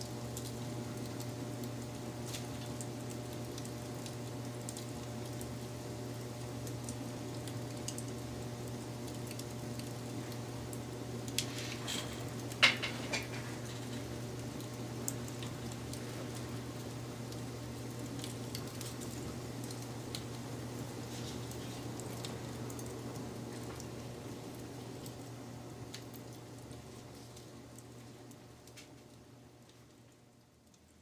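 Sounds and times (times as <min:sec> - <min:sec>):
fire crackling and popping: 0:00.0 - 0:31.0
wood fire rumbling: 0:00.0 - 0:31.0.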